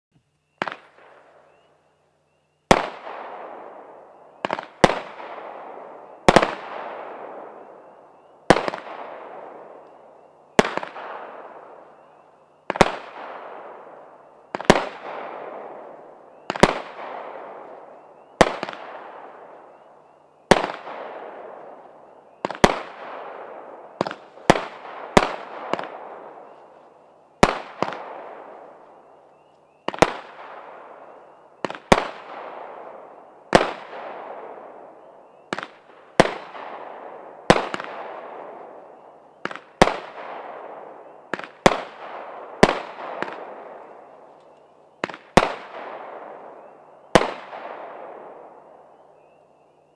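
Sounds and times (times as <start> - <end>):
firework bangs with hissing tails: 0.5 - 1.7, 2.6 - 49.3.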